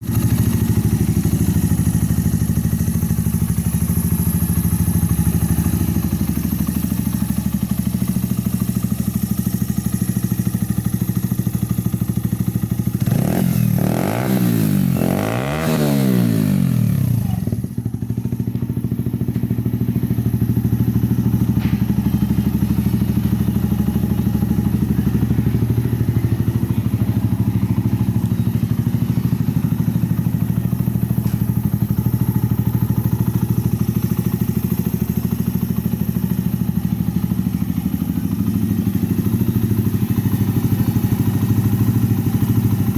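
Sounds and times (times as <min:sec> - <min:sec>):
motorcycle engine idling: 0:00.0 - 0:42.9
motorcycle engine revving: 0:00.0 - 0:42.9.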